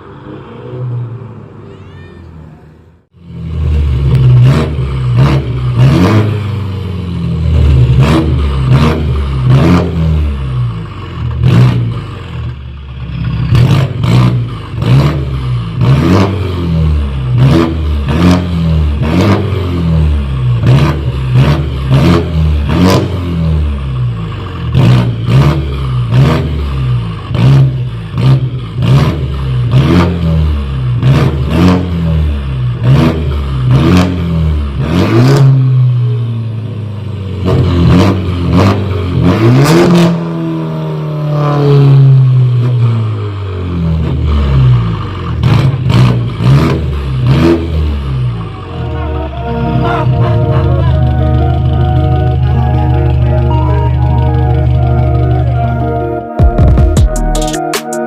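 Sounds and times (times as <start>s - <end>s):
car engine revving: 3.1s - 57.4s.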